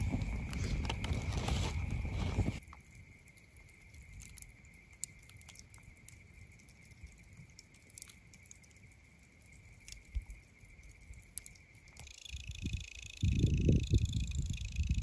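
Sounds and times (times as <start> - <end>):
campfire embers crackling: 0.0 - 13.1.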